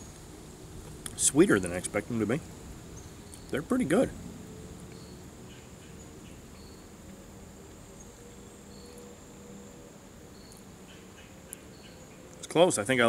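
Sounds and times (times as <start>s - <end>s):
faint insect chirps: 0.0s - 12.6s.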